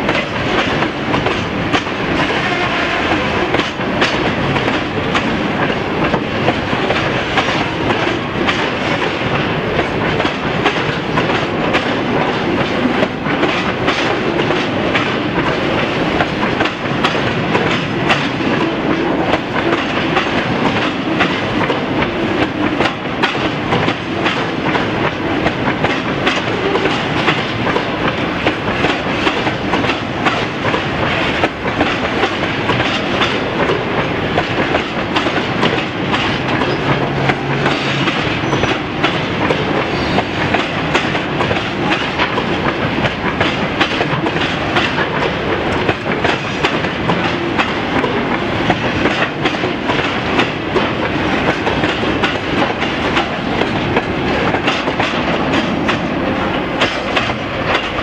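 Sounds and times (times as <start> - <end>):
railway cars rumbling past: 0.0 - 58.0
wheels clattering over rail joints: 0.0 - 58.0.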